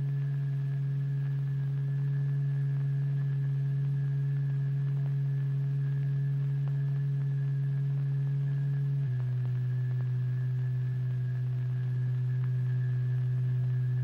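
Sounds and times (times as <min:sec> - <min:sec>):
low electronic tone: 0:00.0 - 0:14.0.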